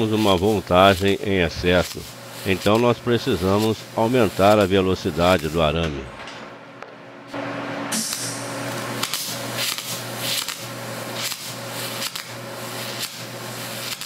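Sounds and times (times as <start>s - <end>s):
welding arc hissing and crackling: 0.0s - 5.9s, 7.9s - 14.0s.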